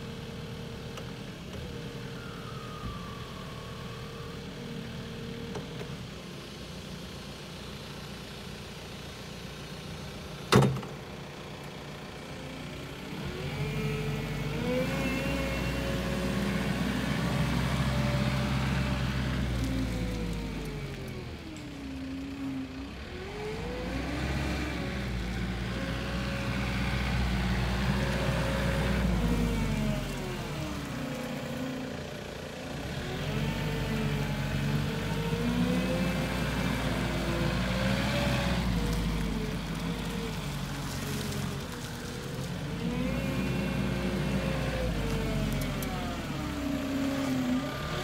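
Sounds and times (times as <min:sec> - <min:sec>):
forklift engine running: 0:04.4 - 0:48.0.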